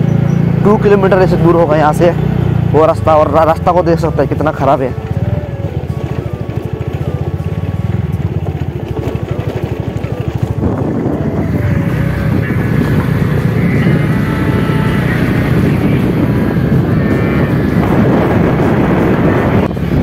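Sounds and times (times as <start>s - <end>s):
motorcycle engine at low speed: 0.0s - 20.0s.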